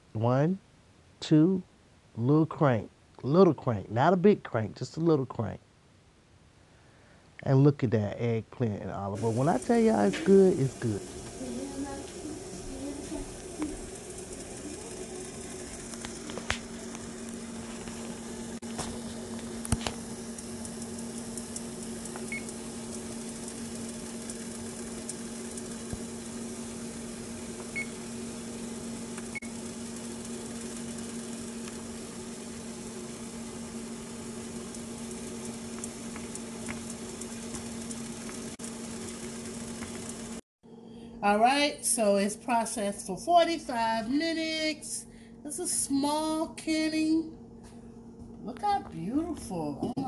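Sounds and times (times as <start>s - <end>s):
steady hum with faint hiss: 0.0s - 35.9s, 40.7s - 50.0s.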